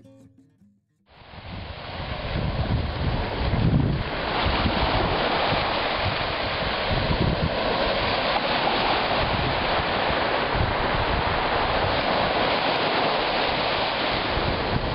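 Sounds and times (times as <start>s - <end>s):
waves breaking on beach: 1.2s - 14.9s
wind buffeting microphone: 1.3s - 14.9s.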